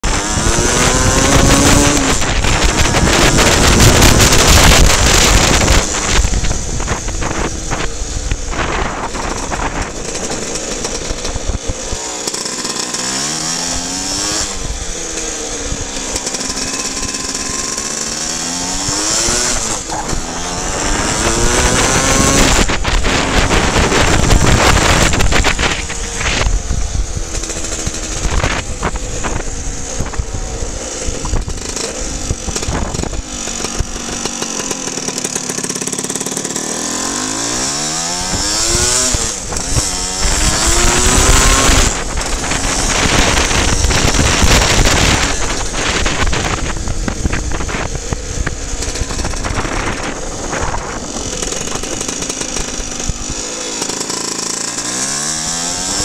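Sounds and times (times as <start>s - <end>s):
wind on microphone: 0.0s - 12.0s, 13.1s - 56.0s
scooter engine revving: 0.0s - 56.0s.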